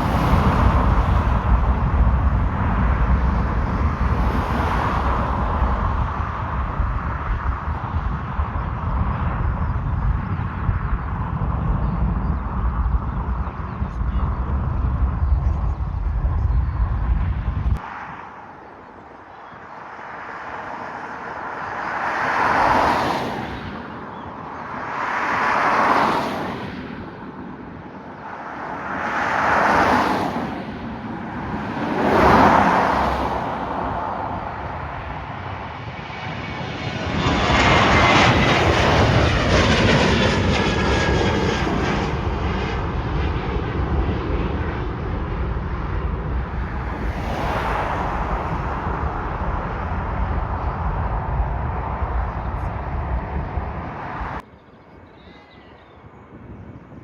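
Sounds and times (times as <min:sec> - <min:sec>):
swells of noise: 0:00.0 - 0:08.8, 0:13.6 - 0:54.6
aircraft engines roaring: 0:00.0 - 0:57.0.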